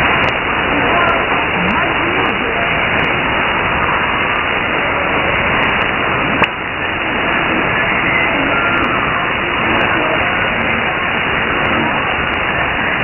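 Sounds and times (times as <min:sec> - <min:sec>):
shortwave radio static: 0:00.0 - 0:13.0.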